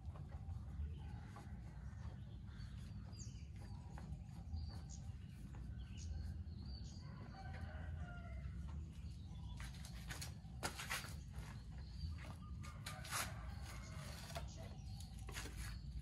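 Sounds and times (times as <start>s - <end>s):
birds chirping and clucking: 0.0s - 16.0s.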